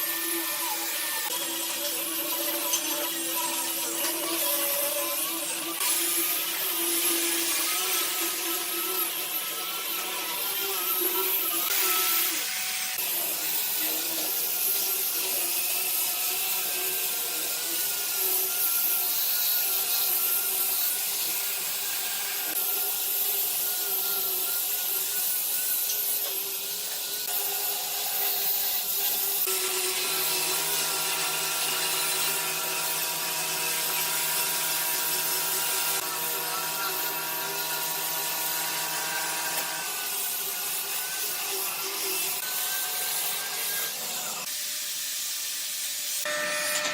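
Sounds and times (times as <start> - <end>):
power tool on wood: 0.0 - 46.9.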